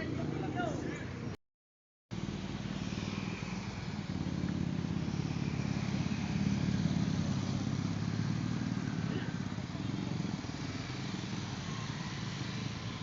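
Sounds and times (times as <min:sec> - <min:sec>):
motorcycle engine running: 0:02.1 - 0:13.0.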